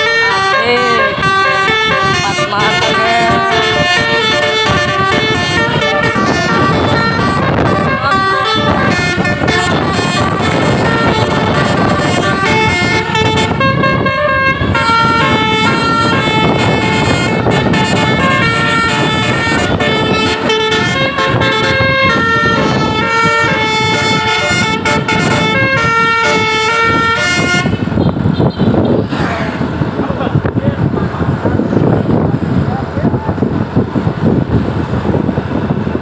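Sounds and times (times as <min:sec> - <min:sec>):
musical bus horn tune: 0:00.0 - 0:29.0
engine and road noise: 0:00.0 - 0:36.0.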